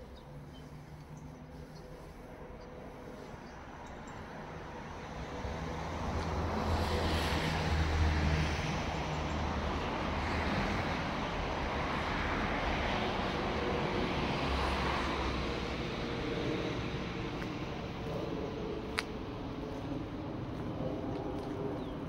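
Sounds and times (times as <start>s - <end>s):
traffic passing: 0.0s - 22.0s.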